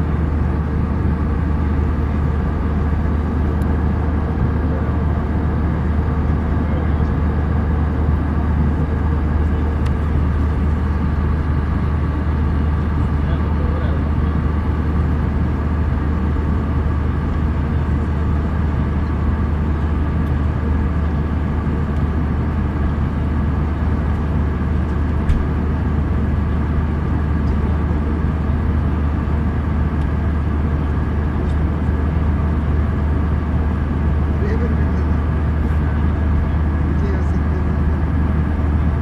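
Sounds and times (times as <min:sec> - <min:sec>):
airliner cabin roar: 0:00.0 - 0:39.0.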